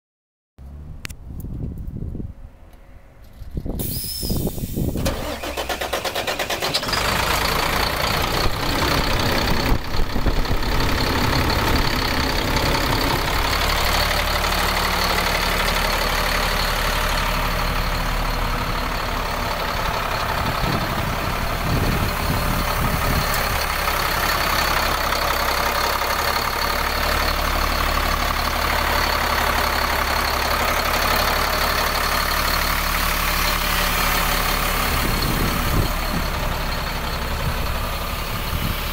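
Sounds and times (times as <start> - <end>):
diesel engine starting and idling: 2.6 - 38.9.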